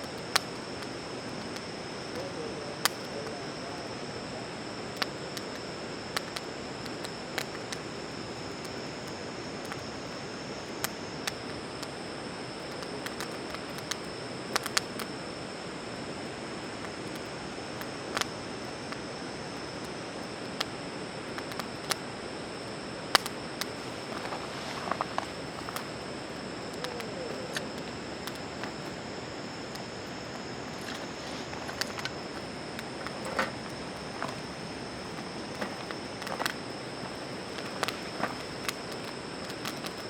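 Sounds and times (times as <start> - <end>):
campfire crackling and popping: 0.0 - 40.0
high-pitched insect trill: 0.0 - 40.0.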